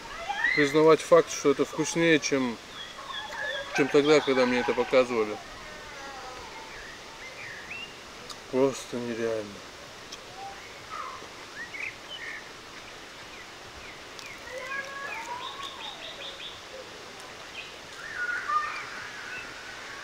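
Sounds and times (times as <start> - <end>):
songbirds singing: 0.0 - 9.0, 9.6 - 20.0
outdoor background hiss: 0.0 - 20.0.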